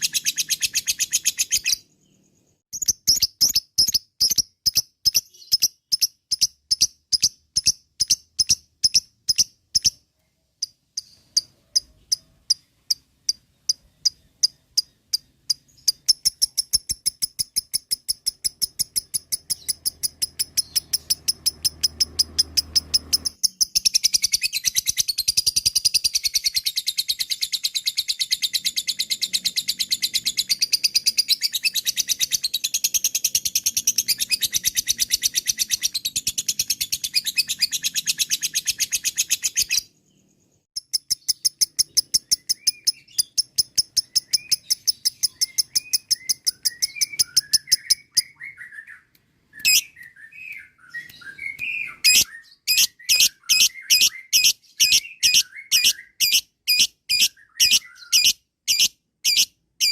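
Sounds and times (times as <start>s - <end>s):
lovebird chattering: 0.0s - 1.8s, 2.8s - 10.0s, 10.6s - 39.9s, 40.8s - 48.6s, 49.6s - 59.9s.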